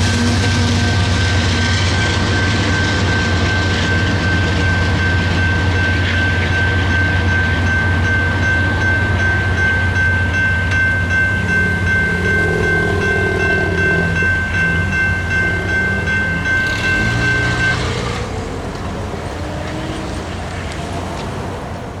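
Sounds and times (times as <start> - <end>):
crossing signal bell ringing: 0.0 - 21.6
freight train rumble: 0.0 - 22.0.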